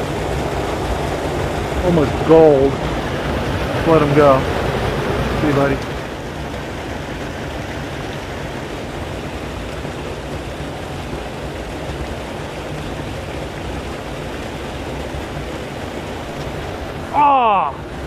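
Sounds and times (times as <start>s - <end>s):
water rushing over weir: 0.0s - 18.0s.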